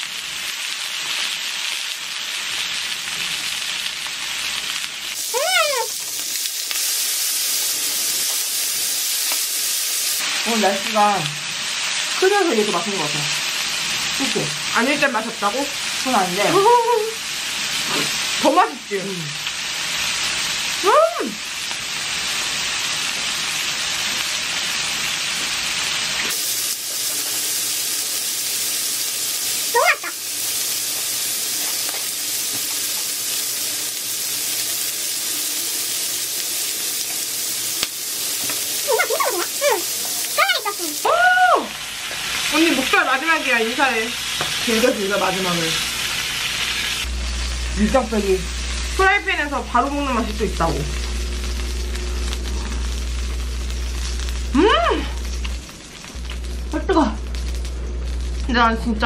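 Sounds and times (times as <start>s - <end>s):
pork sizzling in a frying pan: 0.0s - 59.0s.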